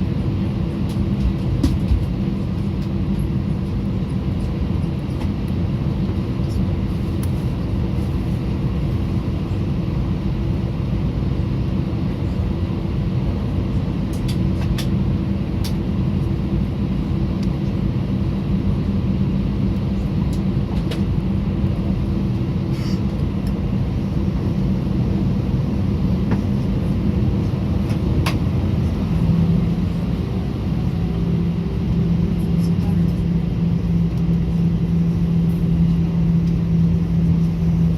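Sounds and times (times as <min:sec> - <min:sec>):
airplane cabin engine drone: 0:00.0 - 0:37.9.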